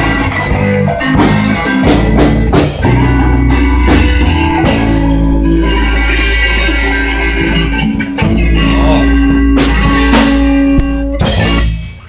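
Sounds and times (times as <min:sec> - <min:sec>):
drum kit beat: 0:00.0 - 0:12.0
rock band playing: 0:00.0 - 0:12.0.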